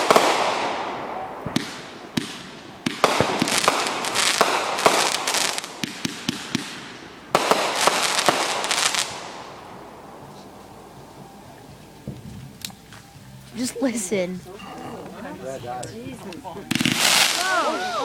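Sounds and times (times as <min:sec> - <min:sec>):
fireworks crackling bangs and pops: 0:00.0 - 0:13.7, 0:16.2 - 0:17.8.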